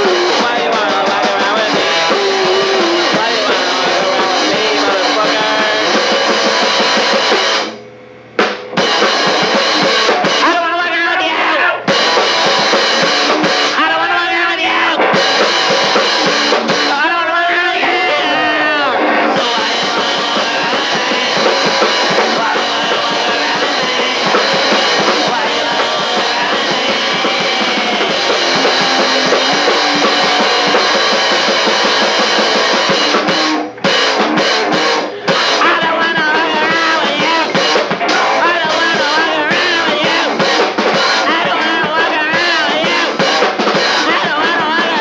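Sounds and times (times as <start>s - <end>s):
drum kit: 0.0s - 45.0s
rock guitar: 0.0s - 45.0s.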